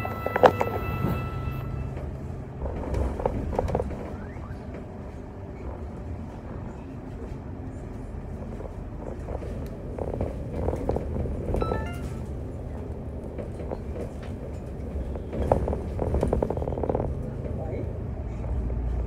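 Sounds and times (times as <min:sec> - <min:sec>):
bus body rattling: 0:00.0 - 0:19.0
bus engine and road rumble: 0:00.0 - 0:19.0.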